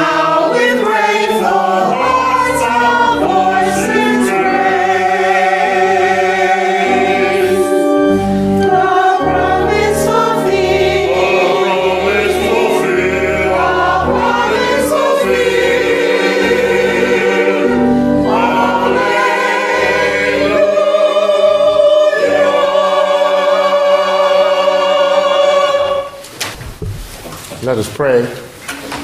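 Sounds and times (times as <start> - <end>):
choir singing a hymn: 0.0 - 26.3.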